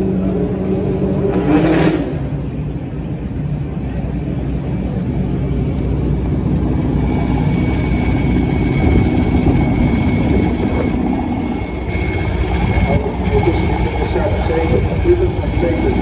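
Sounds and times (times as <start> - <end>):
racing car engines at low revs: 0.0 - 16.0
steady high whine: 0.0 - 16.0.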